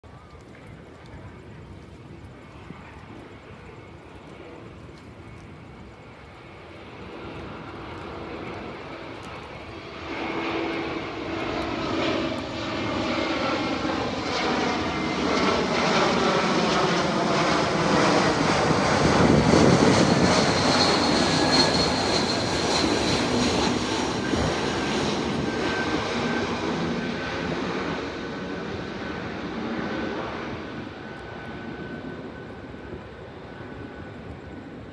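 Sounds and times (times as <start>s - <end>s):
airliner flying low overhead: 0.0s - 34.9s.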